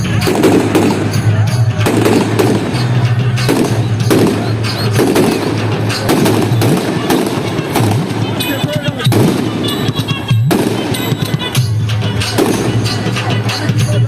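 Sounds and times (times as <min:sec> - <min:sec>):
fireworks bangs and crackles: 0:00.0 - 0:14.0
loud music with bass line: 0:00.0 - 0:14.0.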